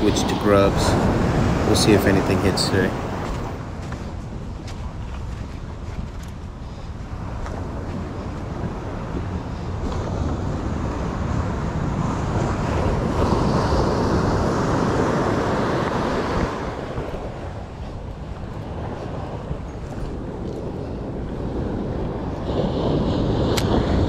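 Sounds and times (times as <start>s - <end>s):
surf rushing on beach: 0.0s - 24.0s
wind buffeting microphone: 0.0s - 24.0s.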